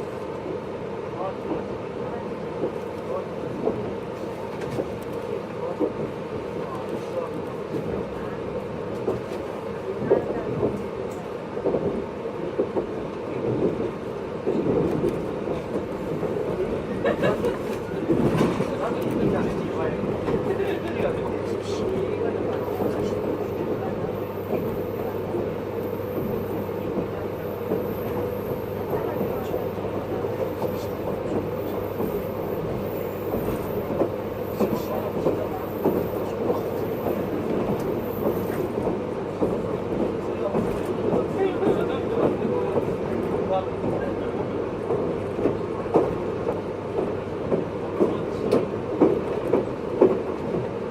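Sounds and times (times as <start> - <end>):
train running rumble: 0.0 - 50.9.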